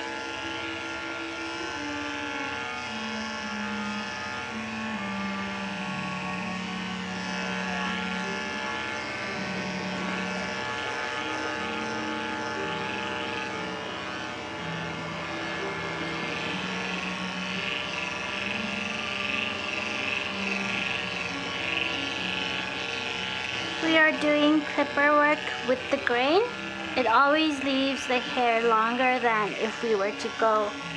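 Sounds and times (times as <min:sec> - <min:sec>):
electric dog clipper humming: 0:00.0 - 0:30.9.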